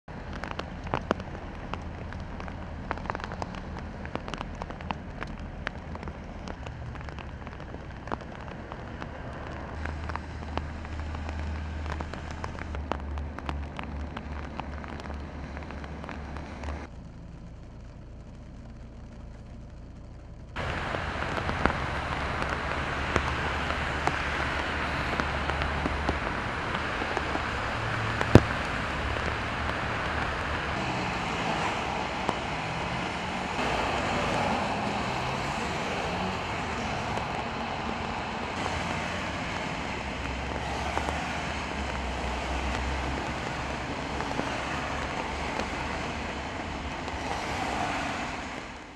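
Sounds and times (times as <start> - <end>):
low rumble: 0.1 - 47.6
rain pouring: 0.1 - 48.9.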